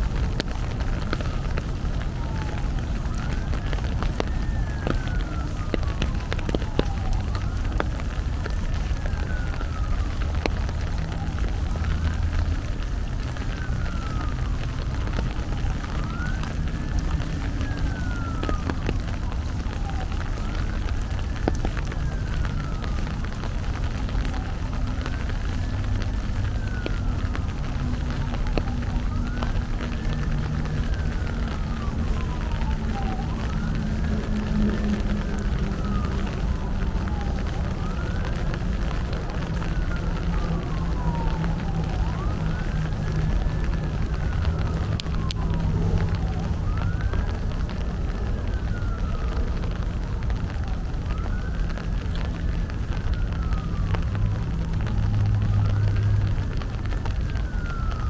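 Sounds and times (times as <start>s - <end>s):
emergency siren wailing: 0.0s - 58.0s
steady rain: 0.0s - 58.0s.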